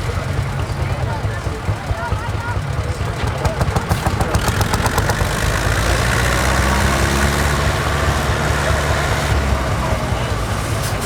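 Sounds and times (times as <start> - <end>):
rapid engine knocking: 0.0 - 11.0
tractor diesel engines droning: 0.0 - 11.0.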